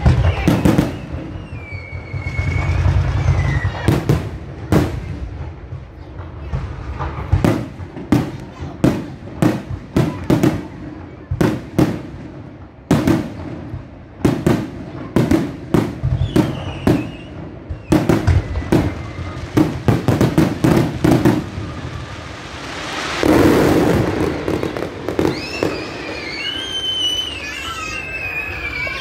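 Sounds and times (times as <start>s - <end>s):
fireworks bangs: 0.0s - 29.0s
fireworks crackling hiss: 0.0s - 29.0s.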